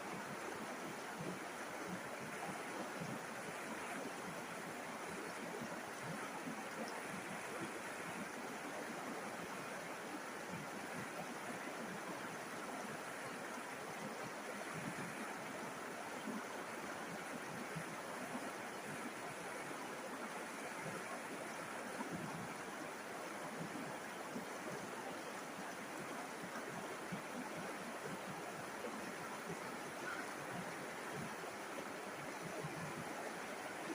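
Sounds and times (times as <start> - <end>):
river water babbling over stones: 0.0 - 33.9.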